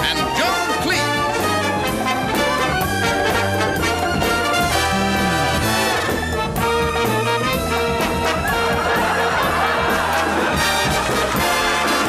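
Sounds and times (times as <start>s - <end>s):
big band dance music: 0.0s - 12.0s
trombone slide: 0.2s - 9.3s, 10.0s - 12.0s.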